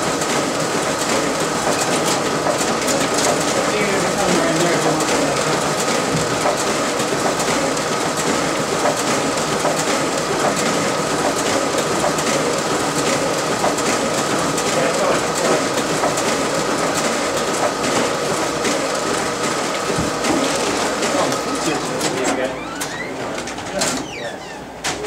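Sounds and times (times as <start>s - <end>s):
printer running with high whine: 0.0s - 25.0s.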